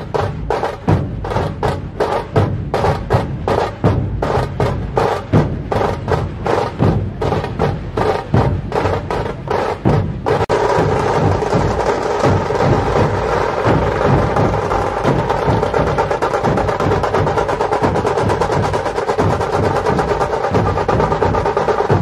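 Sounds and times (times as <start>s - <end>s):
percussion music with fast drums: 0.0s - 22.0s.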